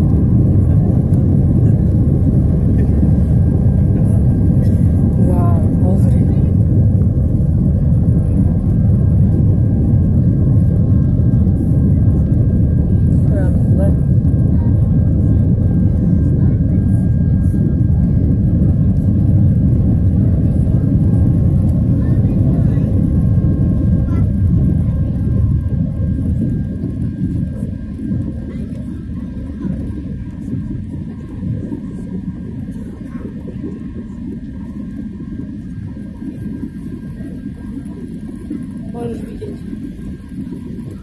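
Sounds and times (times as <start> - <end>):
rushing air: 0.0 - 38.3
aircraft engine rumble: 0.0 - 41.0
faint steady whine: 0.0 - 41.0.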